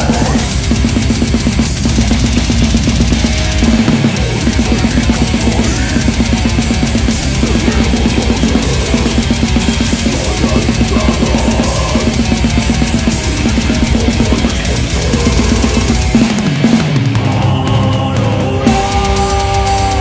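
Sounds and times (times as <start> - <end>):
crashing cymbals: 0.0 - 17.1
kick drum strokes: 0.0 - 18.0
heavy metal backing track: 0.0 - 20.0
heavy metal drumming: 0.0 - 20.0.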